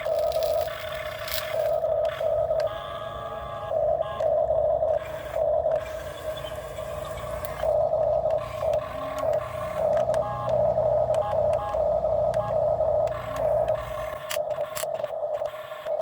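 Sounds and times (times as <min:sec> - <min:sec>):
high whine: 0:00.0 - 0:13.9
low engine rumble: 0:00.0 - 0:14.2.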